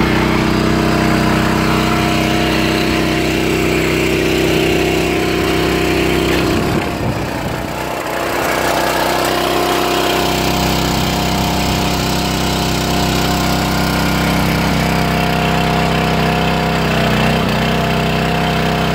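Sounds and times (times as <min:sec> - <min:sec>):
digging chain cutting soil: 0:00.0 - 0:18.9
trencher engine running under load: 0:00.0 - 0:18.9.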